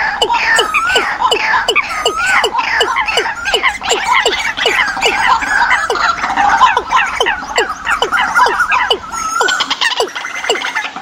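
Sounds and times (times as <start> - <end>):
birds squawking and chattering: 0.0 - 11.0
low falling bird call: 0.0 - 11.0.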